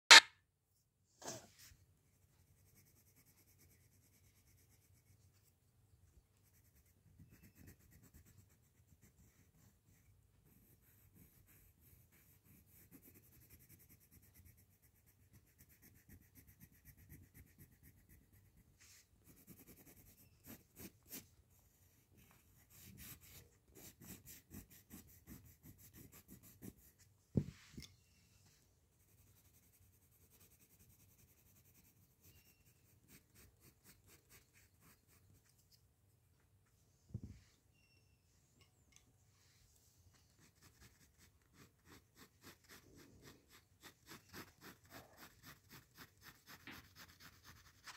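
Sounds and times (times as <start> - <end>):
colour pencil scratching on paper: 1.3 - 5.6, 6.3 - 27.6, 29.0 - 35.7, 40.1 - 47.9.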